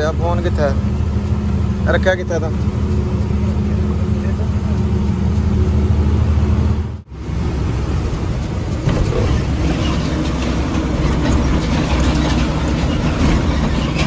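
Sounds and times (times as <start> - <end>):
diesel engine running: 0.0 - 14.0
road and tyre noise: 0.0 - 14.0.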